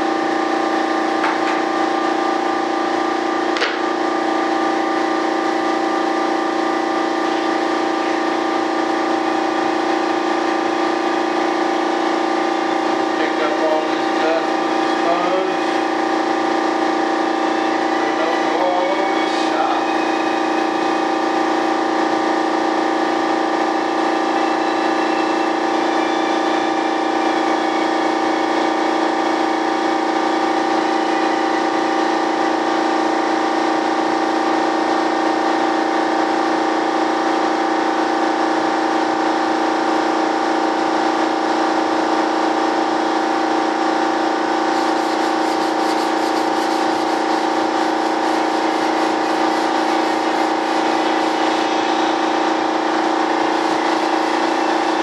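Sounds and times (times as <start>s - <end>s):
motor humming steadily: 0.0s - 55.0s.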